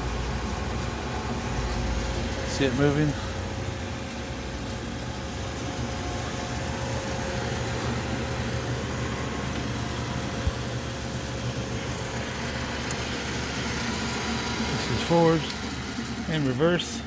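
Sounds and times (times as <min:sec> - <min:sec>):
lathe running: 0:00.0 - 0:17.0.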